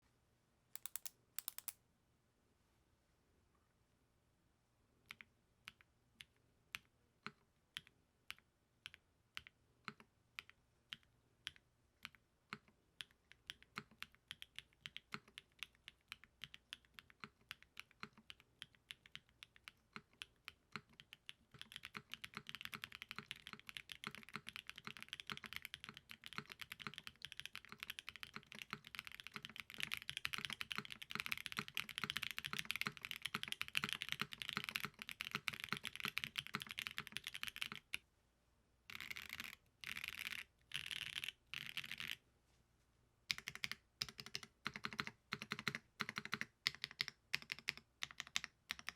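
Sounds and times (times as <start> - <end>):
typing on mechanical keyboard: 0.8 - 1.8, 7.3 - 38.0, 38.9 - 42.2, 43.3 - 48.9.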